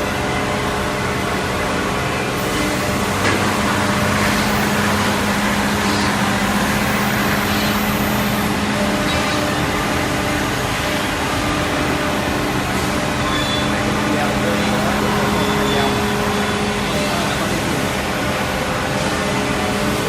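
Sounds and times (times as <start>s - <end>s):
drilling machine whirring: 0.0s - 20.0s.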